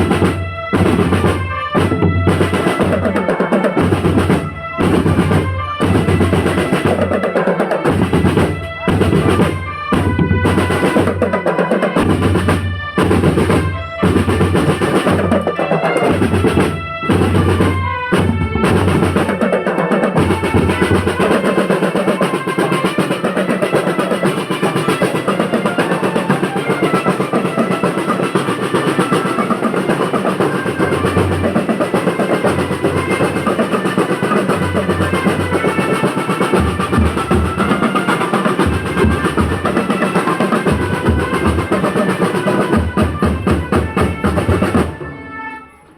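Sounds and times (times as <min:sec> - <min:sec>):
snare drums beating: 0:00.0 - 0:45.6
marching band melody: 0:00.0 - 0:45.9.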